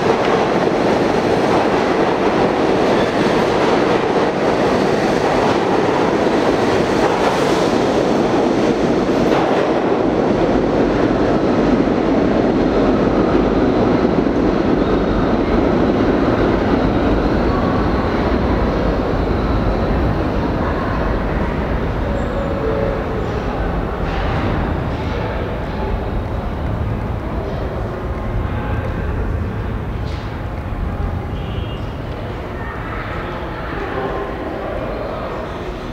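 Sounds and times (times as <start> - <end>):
subway train rumble: 0.0 - 35.9.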